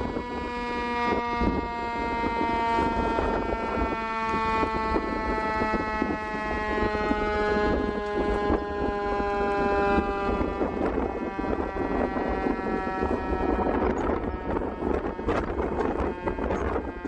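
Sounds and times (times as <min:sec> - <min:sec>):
air raid siren: 0:00.0 - 0:17.0.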